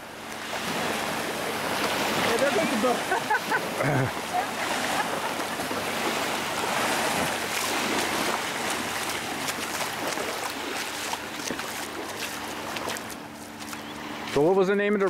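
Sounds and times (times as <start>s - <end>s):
small waves lapping at shore: 0.0s - 15.0s.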